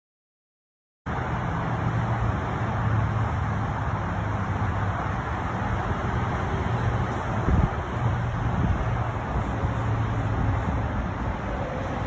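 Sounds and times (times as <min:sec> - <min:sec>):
road traffic noise: 0:01.1 - 0:12.0.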